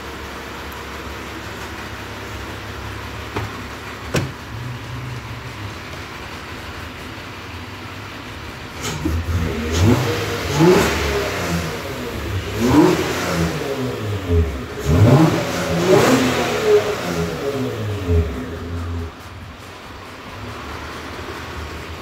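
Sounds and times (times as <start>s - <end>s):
car engine revving: 2.2s - 22.0s.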